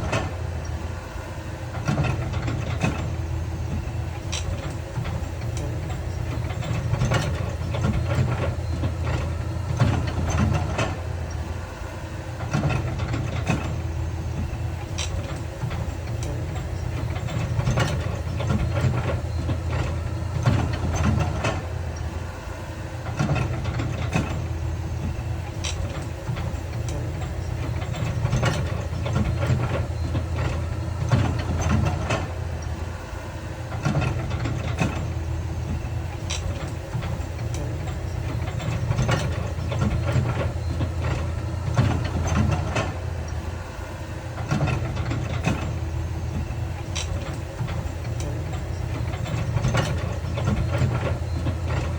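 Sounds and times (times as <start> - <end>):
diesel machinery rumbling: 0.0 - 51.9.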